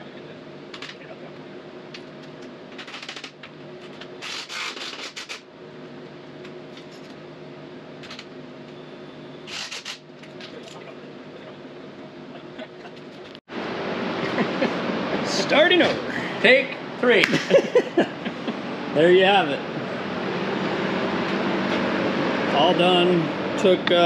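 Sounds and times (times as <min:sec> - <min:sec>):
steady shop hum: 0:00.0 - 0:24.0.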